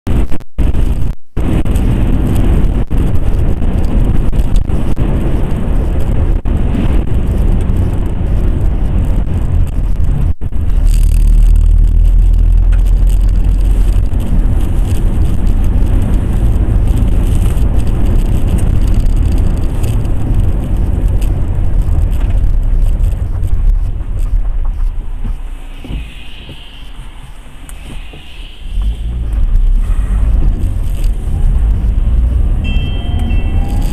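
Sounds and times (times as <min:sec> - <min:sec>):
car interior road and wind rumble: 0:00.1 - 0:33.9.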